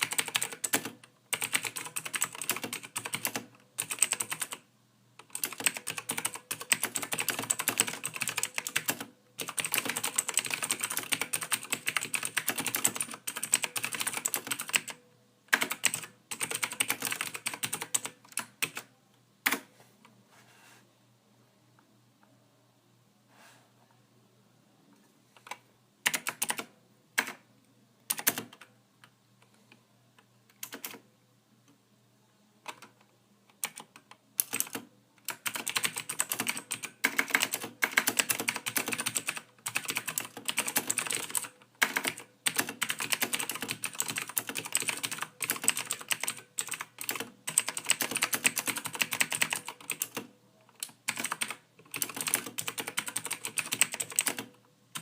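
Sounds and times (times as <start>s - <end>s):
typing on computer keyboard: 0.0s - 4.6s, 5.2s - 19.7s, 25.4s - 27.4s, 28.1s - 28.7s, 30.5s - 31.0s, 32.6s - 55.0s.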